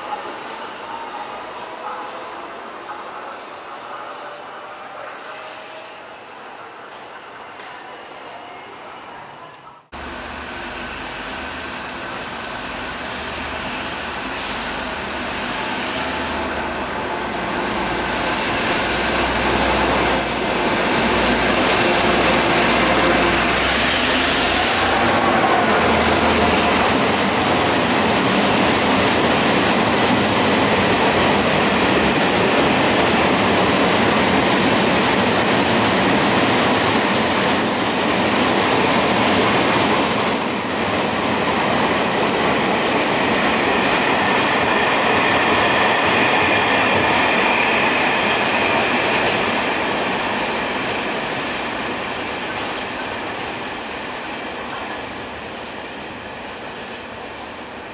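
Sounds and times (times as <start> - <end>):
train rumbling past: 9.9 - 57.9.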